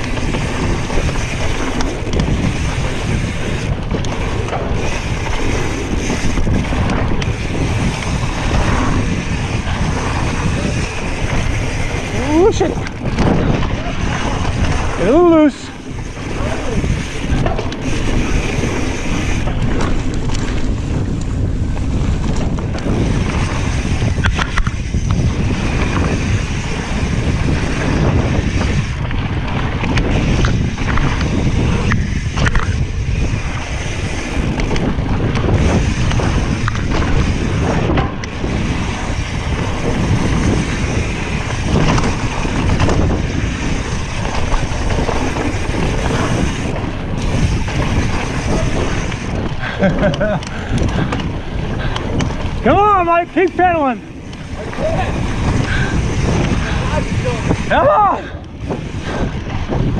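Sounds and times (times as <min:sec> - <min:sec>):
bike rattling: 0:00.0 - 0:59.9
tyres rumbling over dirt trail: 0:00.0 - 0:59.9
wind rushing over microphone: 0:00.0 - 0:59.9.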